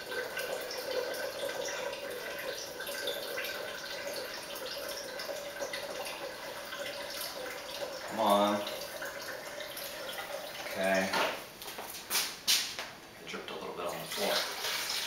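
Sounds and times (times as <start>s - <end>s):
water stream filling a container: 0.0s - 11.1s, 13.6s - 15.0s.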